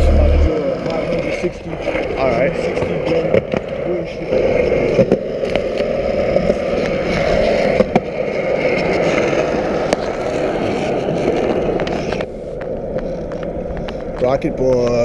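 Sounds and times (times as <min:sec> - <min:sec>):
bike tyres rolling on concrete: 0:00.0 - 0:15.0.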